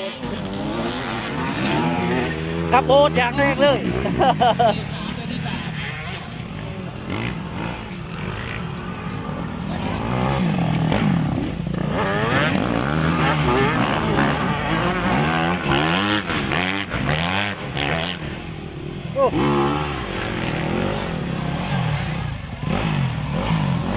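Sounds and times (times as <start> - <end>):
dirt bike engines revving: 0.0 - 23.9.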